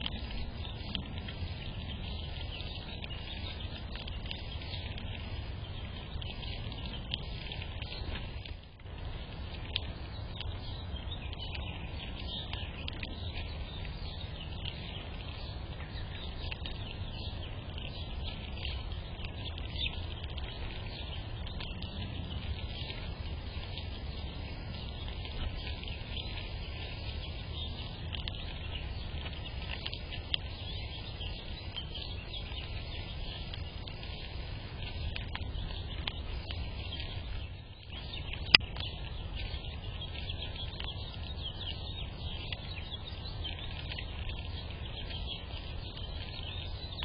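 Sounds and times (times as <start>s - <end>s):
small birds chirping: 0.0s - 47.0s
steady low rumble: 0.0s - 47.0s.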